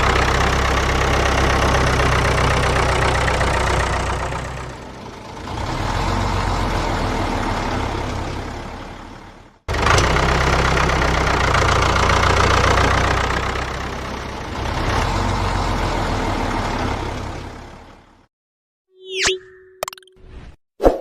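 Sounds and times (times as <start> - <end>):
heavy vehicle engine running: 0.0 - 18.3.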